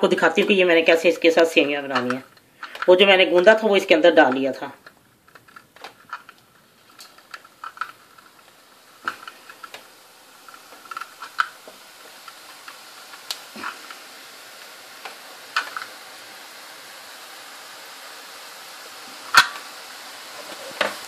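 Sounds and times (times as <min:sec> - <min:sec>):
dough sizzling in hot oil: 0:00.0 - 0:21.0.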